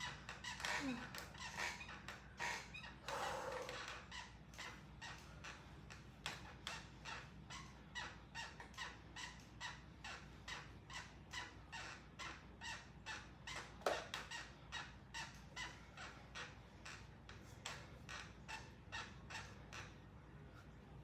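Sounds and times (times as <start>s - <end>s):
exercise bike squeaking: 0.0s - 20.1s.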